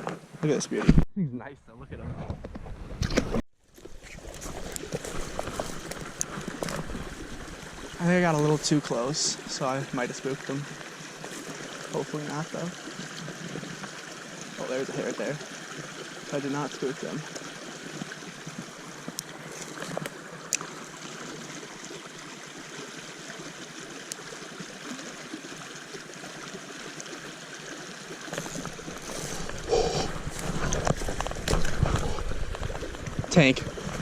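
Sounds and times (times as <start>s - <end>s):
stream flowing and trickling: 0.0s - 1.5s, 3.0s - 34.0s.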